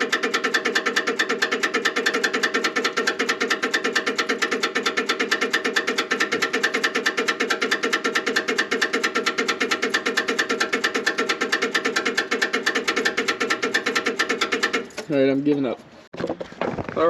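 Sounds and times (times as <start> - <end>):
starter circuit clicking rapidly: 0.0 - 15.3.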